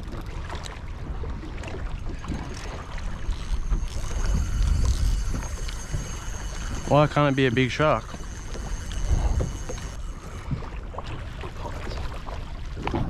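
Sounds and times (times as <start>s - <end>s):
water slapping against a boat: 0.0s - 13.0s
wind buffeting microphone: 0.9s - 11.4s.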